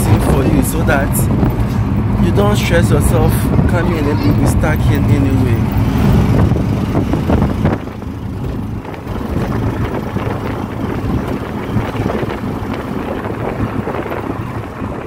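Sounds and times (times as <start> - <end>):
road noise: 0.0 - 15.0
vehicle rattles: 0.0 - 15.0.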